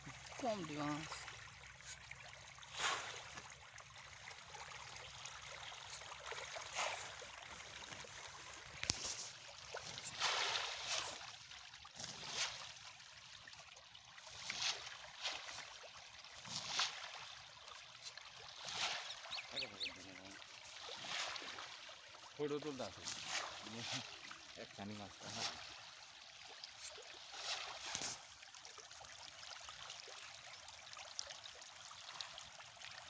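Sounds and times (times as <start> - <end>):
fish splashing at water surface: 0.0 - 30.5.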